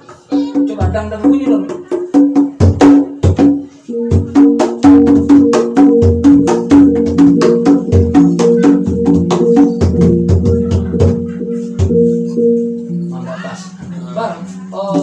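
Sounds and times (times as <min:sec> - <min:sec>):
hand drums: 0:00.0 - 0:15.0.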